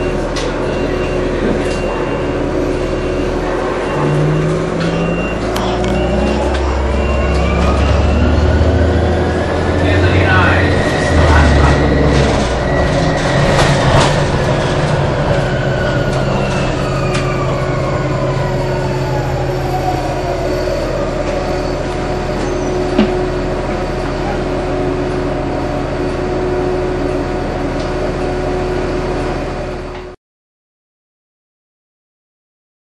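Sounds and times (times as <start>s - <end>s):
engine and road noise drone: 0.0s - 30.2s.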